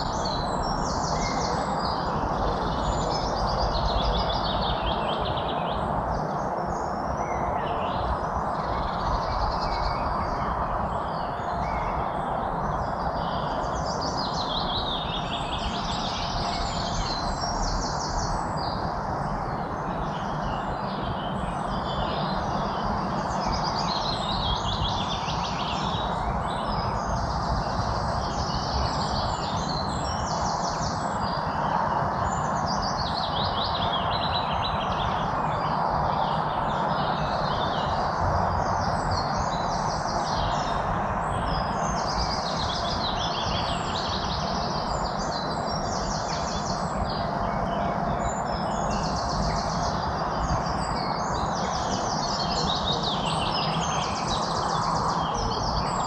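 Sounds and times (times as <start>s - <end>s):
songbirds chirping and trilling: 0.0s - 56.0s
steady rushing noise: 0.0s - 56.0s.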